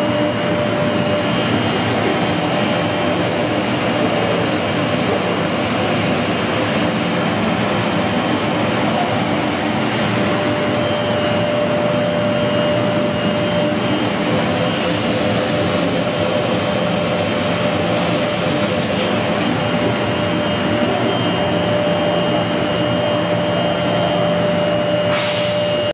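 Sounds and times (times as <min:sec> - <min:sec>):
machine drone with high whine: 0:00.0 - 0:25.9.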